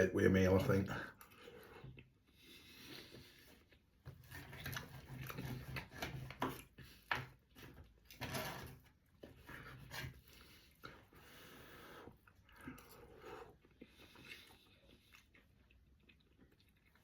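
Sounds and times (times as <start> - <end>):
chewing: 1.2 - 8.2, 9.0 - 17.0.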